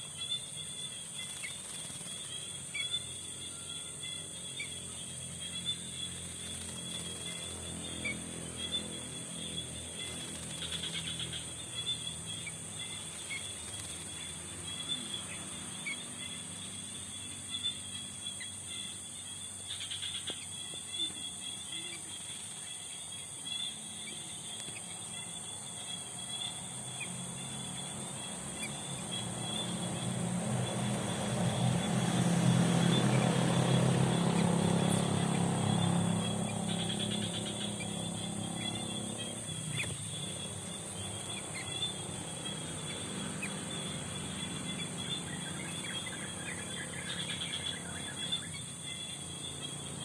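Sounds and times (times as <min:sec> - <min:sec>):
insects chirring: 0:00.0 - 0:50.0.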